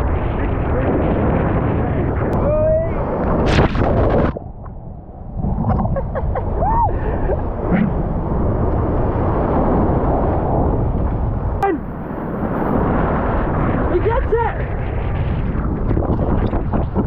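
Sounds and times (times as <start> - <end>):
surf breaking and churning: 0.0 - 17.0.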